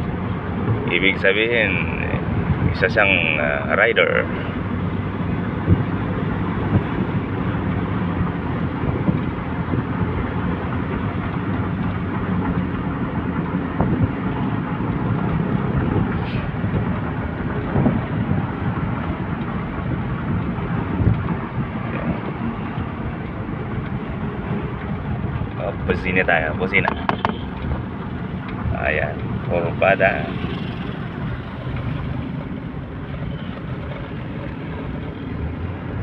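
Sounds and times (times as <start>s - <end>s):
car engine cruising: 0.0s - 36.0s
tyre and road noise: 0.0s - 36.0s.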